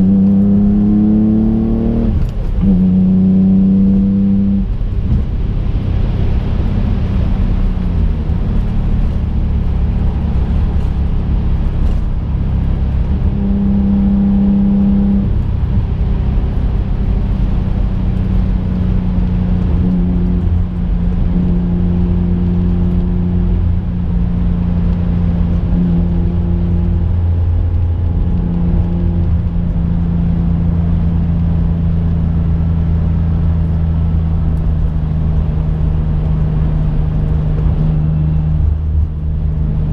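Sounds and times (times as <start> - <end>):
car engine drone from cabin: 0.0 - 39.9
road noise: 0.0 - 39.9.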